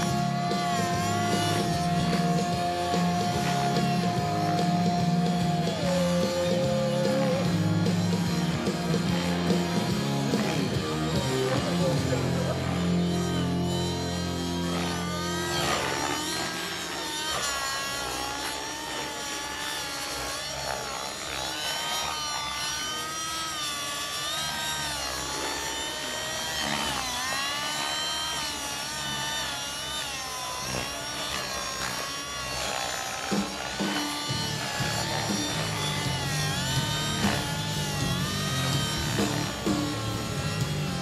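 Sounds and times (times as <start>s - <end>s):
rc helicopter nitro engine: 0.0s - 41.0s
rotor blades spinning: 0.0s - 41.0s.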